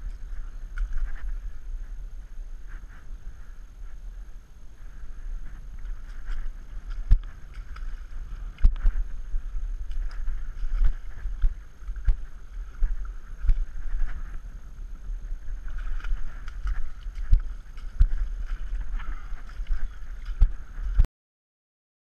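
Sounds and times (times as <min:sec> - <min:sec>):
low rumble: 0:00.0 - 0:21.1.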